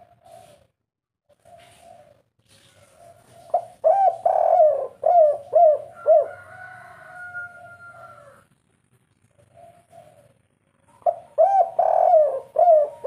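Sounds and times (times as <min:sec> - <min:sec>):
dove cooing: 0:00.0 - 0:00.7, 0:01.3 - 0:08.4, 0:09.3 - 0:13.0.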